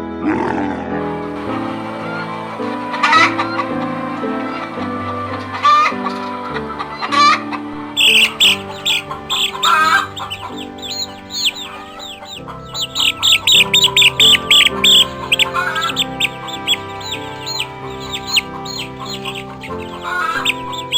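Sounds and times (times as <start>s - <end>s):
background music: 0.0s - 20.9s
chickens calling: 1.2s - 20.9s.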